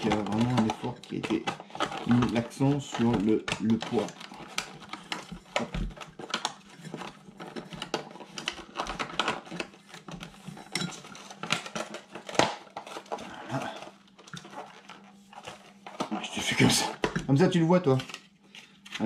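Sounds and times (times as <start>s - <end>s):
plastic clicks and clatter: 0.0s - 16.2s.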